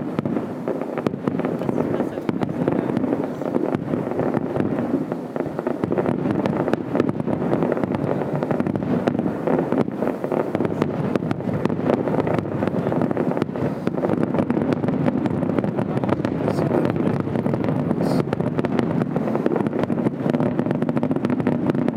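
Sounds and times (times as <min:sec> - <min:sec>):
fireworks crackling and popping: 0:00.0 - 0:21.9.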